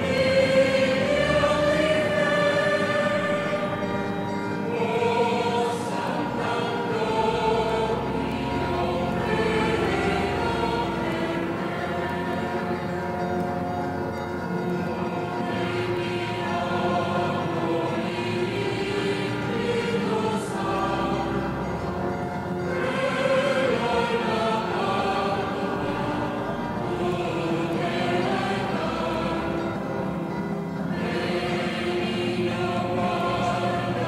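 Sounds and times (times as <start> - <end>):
group singing a slow chant: 0.0 - 13.5, 14.9 - 34.0.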